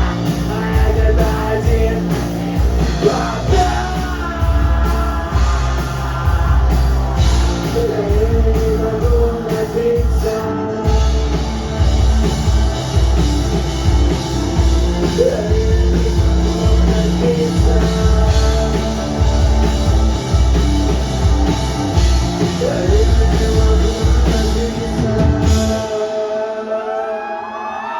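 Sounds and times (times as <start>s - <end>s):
rock band playing: 0.0s - 26.7s.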